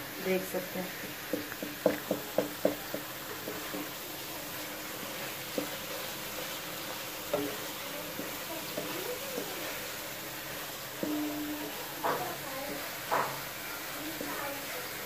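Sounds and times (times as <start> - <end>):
food sizzling in a wok: 0.0 - 15.0
wooden spatula knocking on pan: 0.9 - 10.0, 10.8 - 15.0.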